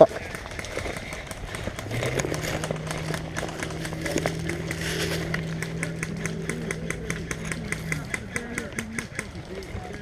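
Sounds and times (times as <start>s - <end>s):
engine-like hum: 0.0s - 10.0s.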